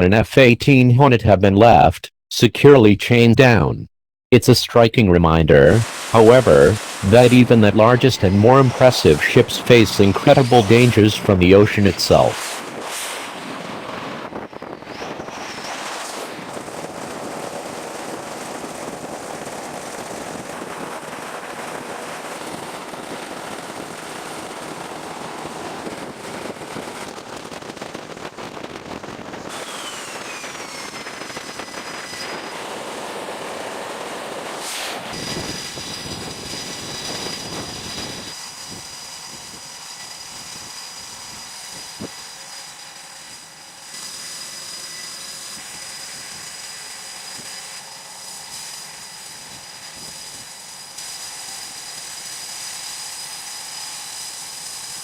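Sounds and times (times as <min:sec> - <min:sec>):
jet engine high whine: 0:05.7 - 0:55.0.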